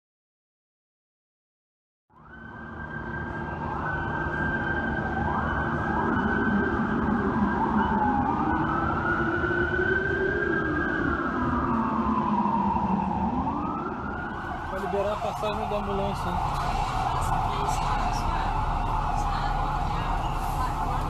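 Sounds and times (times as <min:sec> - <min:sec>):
emergency sirens wailing: 0:02.1 - 0:21.0
city traffic rumble: 0:02.2 - 0:21.0.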